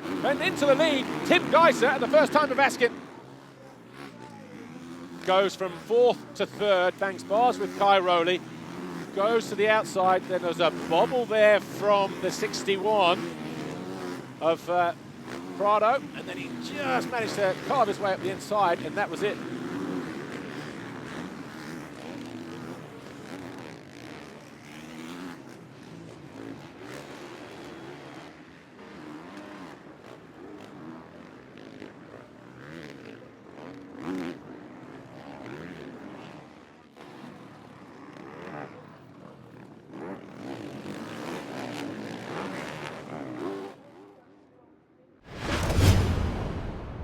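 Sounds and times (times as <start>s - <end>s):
motocross bike engines racing: 0.0s - 44.4s.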